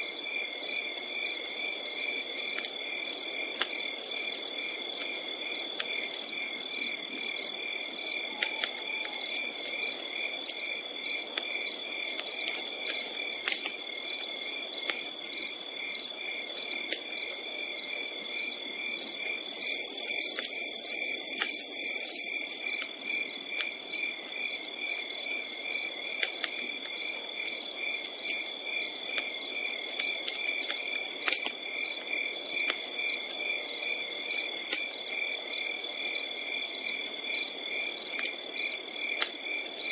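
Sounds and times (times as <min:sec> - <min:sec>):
night insects chirping: 0:00.0 - 0:39.9
campfire crackling: 0:00.5 - 0:33.6, 0:34.2 - 0:35.3, 0:36.4 - 0:39.9.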